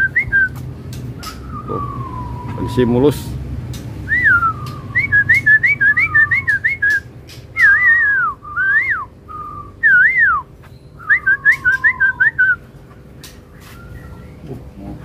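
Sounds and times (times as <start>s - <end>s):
songbird whistling: 0.0s - 0.6s, 1.2s - 3.0s, 4.0s - 14.4s.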